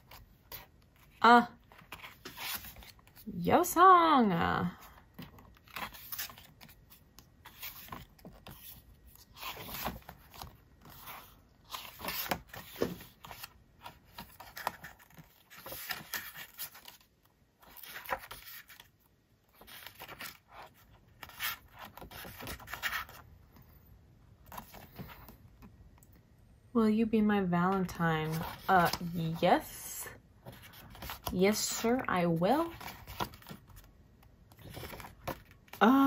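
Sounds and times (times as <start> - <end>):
glossy pages turning and rustling: 0.0 - 3.3, 4.8 - 23.6, 24.4 - 25.8, 27.9 - 29.7, 30.4 - 36.0.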